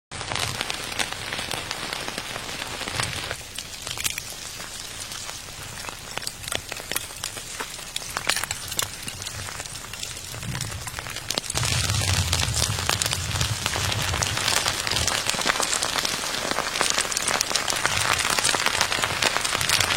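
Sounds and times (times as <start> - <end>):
rain falling on a surface: 0.1 - 19.9.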